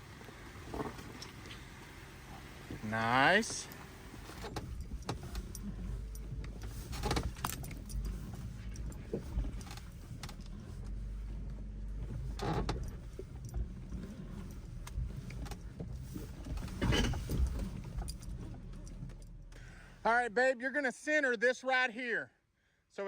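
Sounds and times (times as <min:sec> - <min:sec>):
off-road engine running low: 0:00.0 - 0:20.2.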